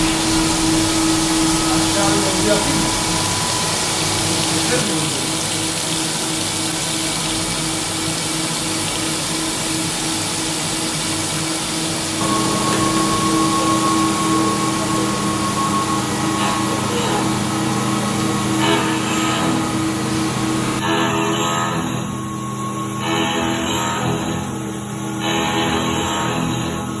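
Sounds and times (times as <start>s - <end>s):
coolant flow rushing: 0.0s - 25.3s
high steady machine whine: 0.0s - 27.0s
machine hum: 0.0s - 27.0s.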